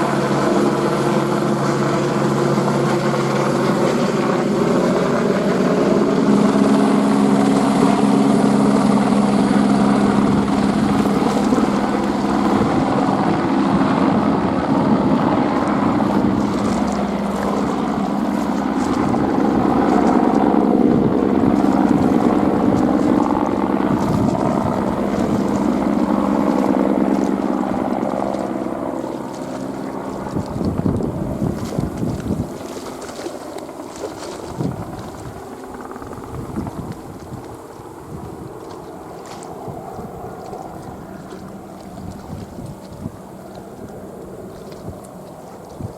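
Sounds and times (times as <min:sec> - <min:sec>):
helicopter flying: 0:00.0 - 0:45.9.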